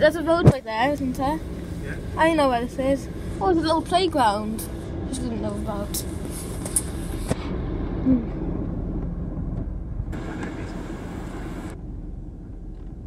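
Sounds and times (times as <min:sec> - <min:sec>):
diesel train rumble from inside: 0:00.0 - 0:13.0.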